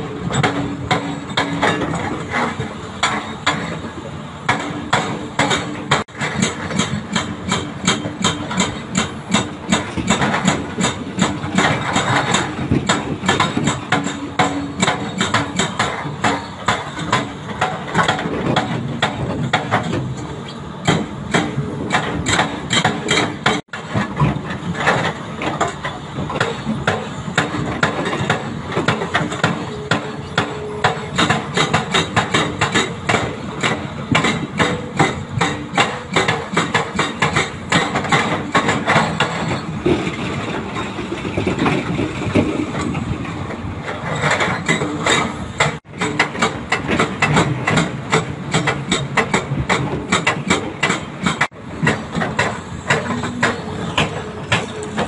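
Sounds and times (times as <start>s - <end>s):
hydraulic breaker hammering rock: 0.0s - 43.1s, 43.8s - 55.0s
diesel engines running: 0.0s - 55.0s.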